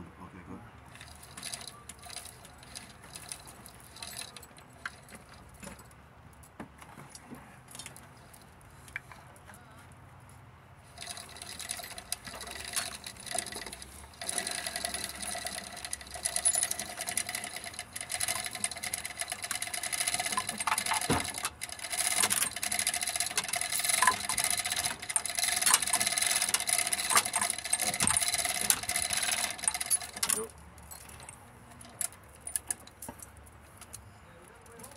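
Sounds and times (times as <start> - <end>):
chain hoist ratchet clicking: 0.9 - 5.9, 10.8 - 34.0
chain rattling: 0.9 - 6.0, 10.8 - 34.0.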